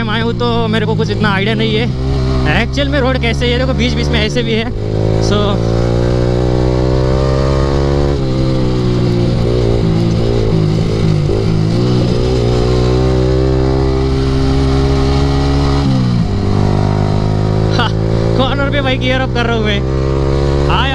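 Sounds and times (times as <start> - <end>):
motorcycle engine at high revs: 0.0 - 20.9.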